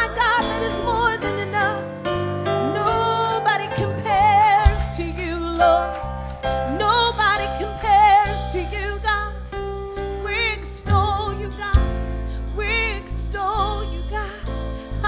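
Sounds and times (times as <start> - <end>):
worship band playing: 0.0 - 14.3.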